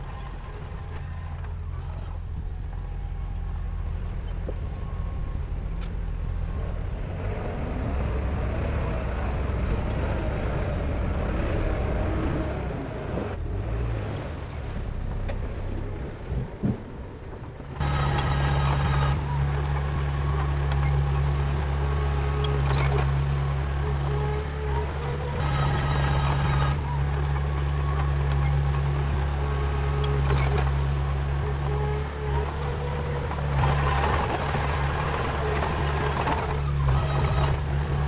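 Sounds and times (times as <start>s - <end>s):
heavy diesel engine running: 0.0s - 13.6s, 14.9s - 38.0s.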